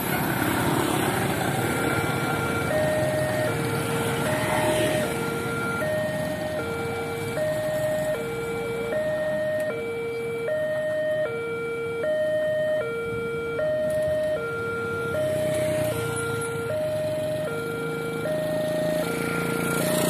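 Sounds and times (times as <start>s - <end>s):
road traffic: 0.0s - 20.0s
level crossing two-tone alarm: 0.7s - 20.0s.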